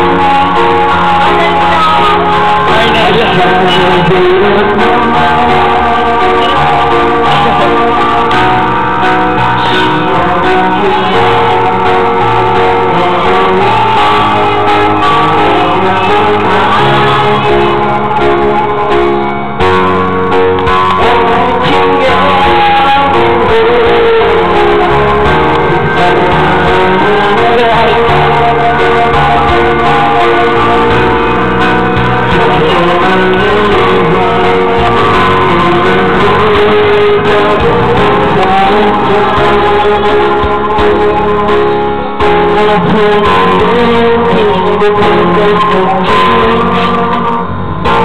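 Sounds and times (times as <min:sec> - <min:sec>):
song with guitar and singing: 0:00.0 - 0:48.0.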